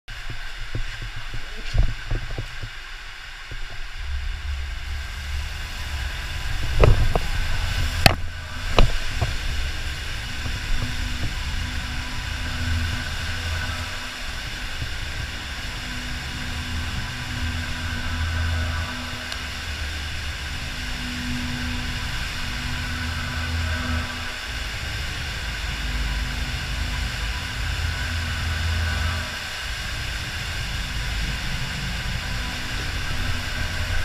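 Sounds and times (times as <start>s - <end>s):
water rumbling and hissing: 0.1s - 34.0s.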